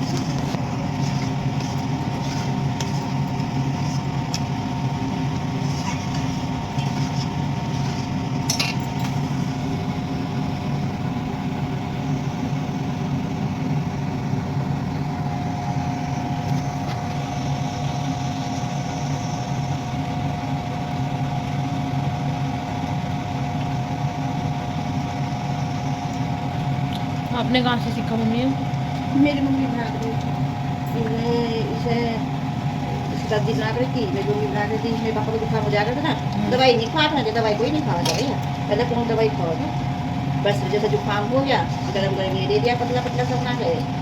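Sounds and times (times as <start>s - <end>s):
machine hum with whine: 0.0s - 44.0s.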